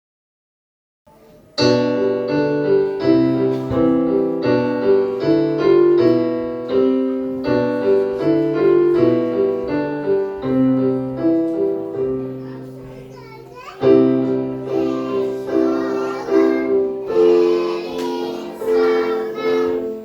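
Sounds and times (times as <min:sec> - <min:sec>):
electric piano melody: 0:01.6 - 0:20.0.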